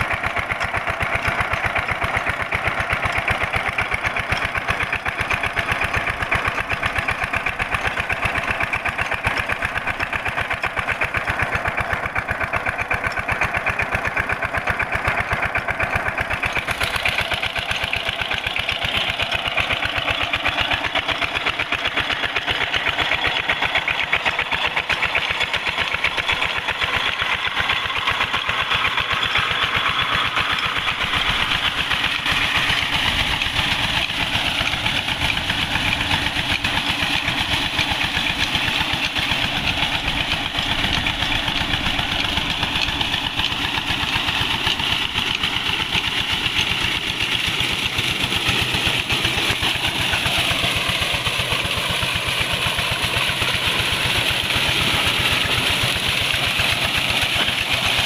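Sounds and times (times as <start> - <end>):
diesel engine running: 0.0 - 58.0
water rushing from pipe: 0.0 - 58.0.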